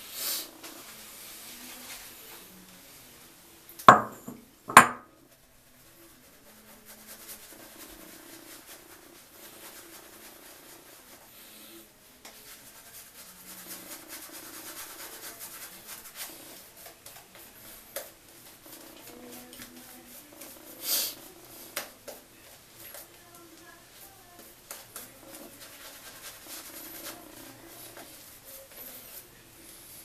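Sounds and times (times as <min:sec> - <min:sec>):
shaving brush rubbing lather: 0:00.1 - 0:02.6, 0:05.7 - 0:30.0.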